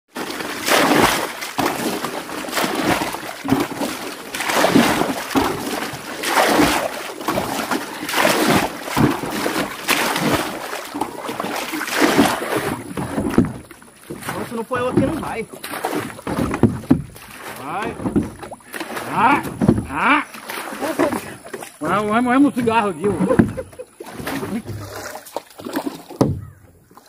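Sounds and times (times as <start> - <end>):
water splashing around a boat: 0.1 - 27.0.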